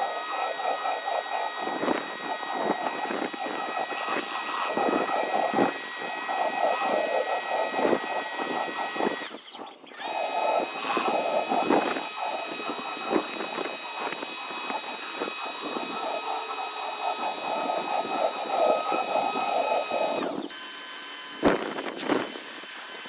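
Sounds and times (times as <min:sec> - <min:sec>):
water jet hissing: 0:00.0 - 0:20.6
pressure washer motor whining: 0:00.0 - 0:23.0.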